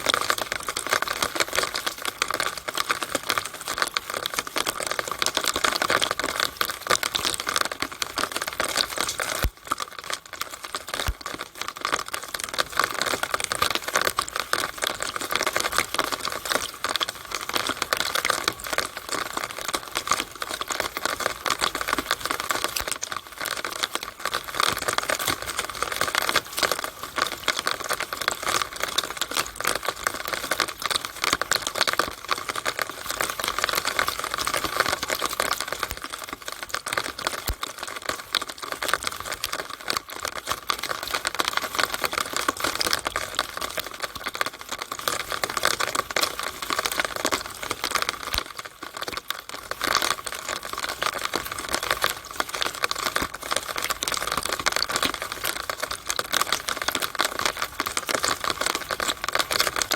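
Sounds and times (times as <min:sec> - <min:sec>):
rainwater dripping through downspout: 0:00.0 - 0:59.9.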